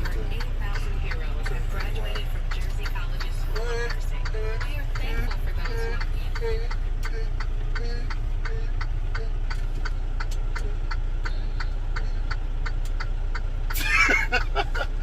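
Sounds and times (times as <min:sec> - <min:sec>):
truck engine idling: 0:00.0 - 0:15.0
turn signal clicking: 0:00.0 - 0:15.0.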